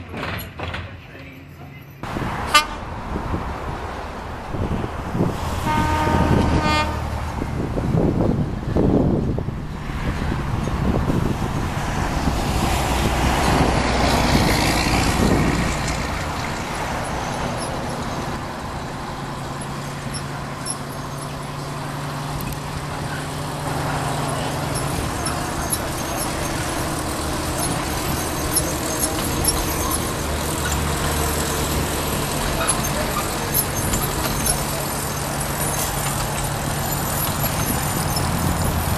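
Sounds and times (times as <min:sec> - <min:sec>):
locomotive engine running: 0:00.0 - 0:38.9.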